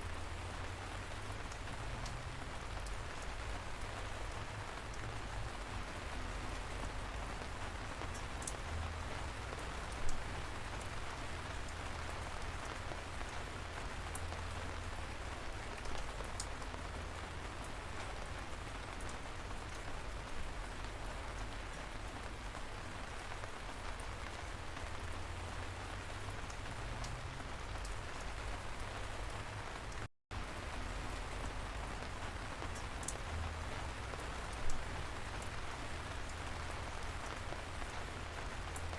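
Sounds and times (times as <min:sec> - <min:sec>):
light rain falling: 0:00.0 - 0:38.9
raindrops ticking: 0:00.0 - 0:38.9.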